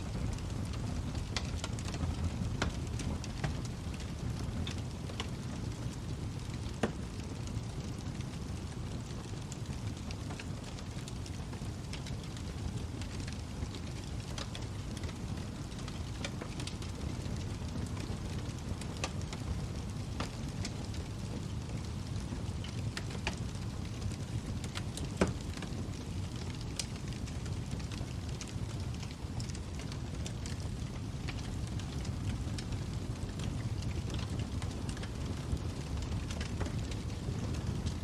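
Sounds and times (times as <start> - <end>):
fire rumbling with crackles: 0.0 - 38.0.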